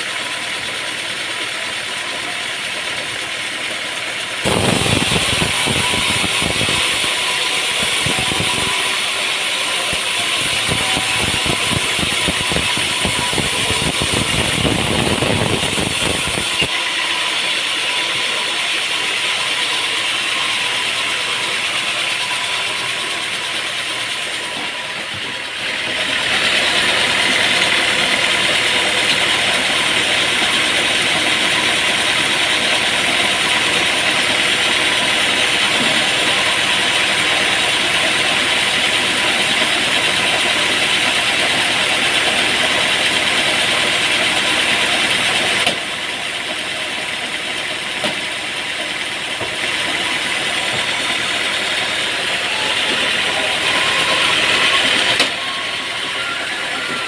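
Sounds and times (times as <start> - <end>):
saw cutting wood: 0.0 - 57.0
sawmill machinery running: 0.0 - 57.0.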